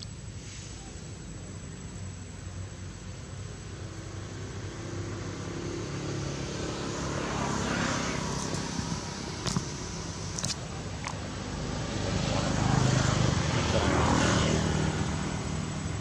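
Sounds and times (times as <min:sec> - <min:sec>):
distant engine droning: 0:00.0 - 0:16.0.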